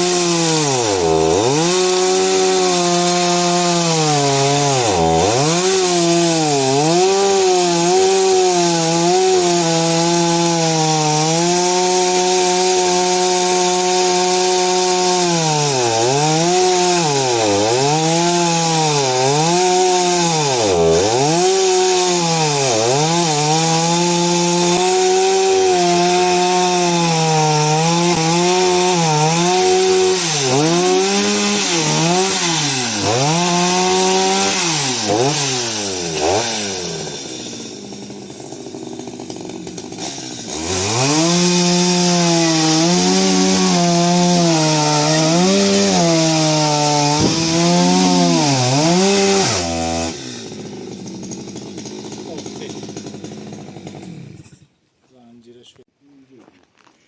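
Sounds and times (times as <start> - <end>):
chainsaw cutting wood: 0.0 - 54.8.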